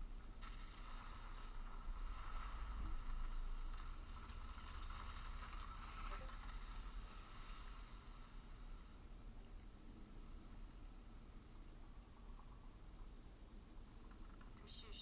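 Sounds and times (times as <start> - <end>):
wind in bamboo forest: 0.0 - 15.0.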